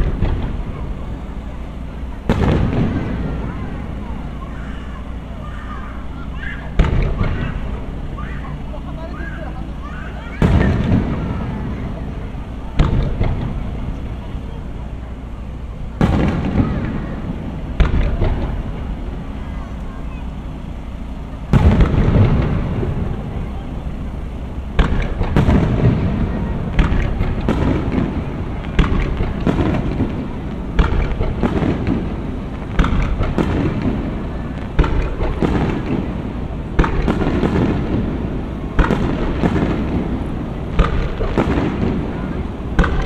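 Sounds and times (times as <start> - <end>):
fireworks booming: 0.0 - 43.0.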